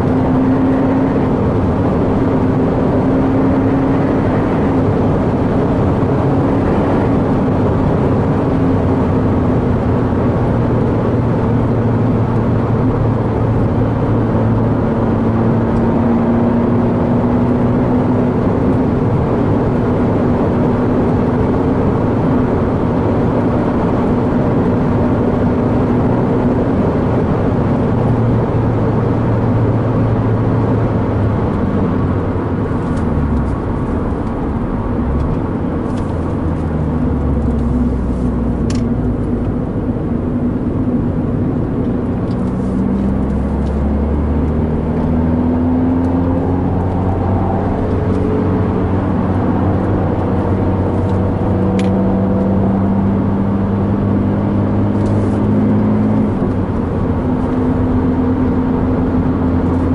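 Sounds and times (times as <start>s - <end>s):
car engine under throttle: 0.0s - 59.9s
road and tyre noise: 0.0s - 59.9s.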